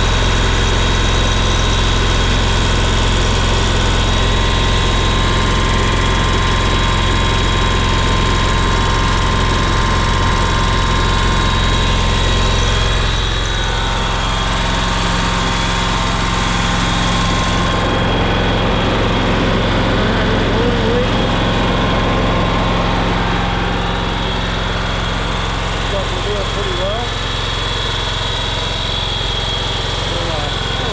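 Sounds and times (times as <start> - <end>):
mower engine running: 0.0 - 30.9.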